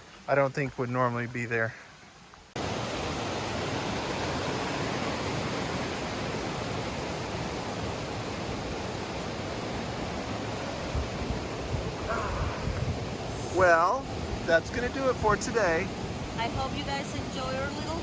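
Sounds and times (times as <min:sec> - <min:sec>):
water rushing down waterfall: 0:02.4 - 0:18.0.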